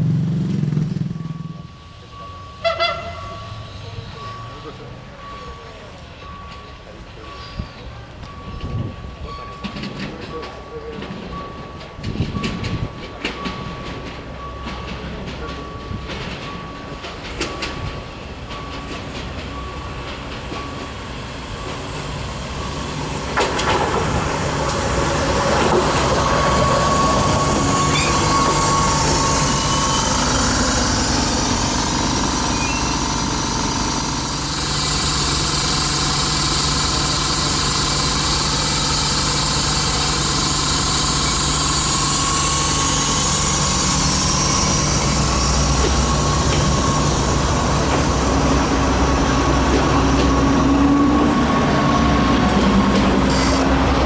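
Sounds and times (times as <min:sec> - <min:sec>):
diesel railcar engine hum: 0:00.0 - 0:54.0
high tones from wheels: 0:00.4 - 0:54.0.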